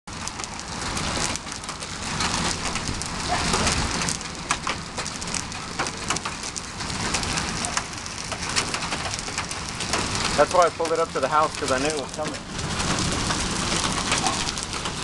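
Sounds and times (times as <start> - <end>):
hail hissing: 0.1 - 15.0
hailstones clicking on concrete: 0.1 - 15.0.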